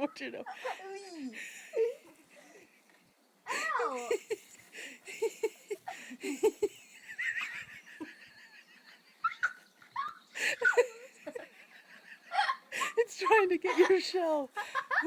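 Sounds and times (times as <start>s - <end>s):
people giggling and laughing: 0.5s - 2.8s, 3.5s - 15.0s.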